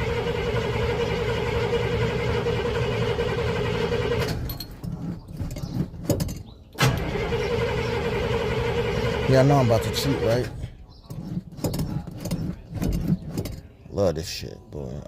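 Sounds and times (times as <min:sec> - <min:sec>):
engine starter cranking: 0:00.0 - 0:13.7.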